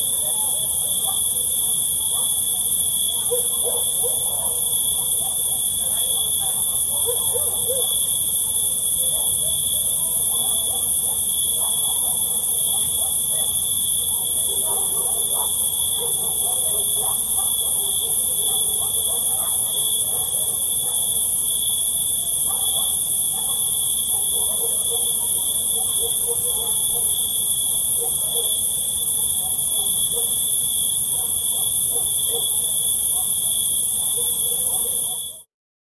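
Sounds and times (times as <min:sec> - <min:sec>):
crickets chirping: 0:00.0 - 0:35.4
low insect whine: 0:00.0 - 0:35.4.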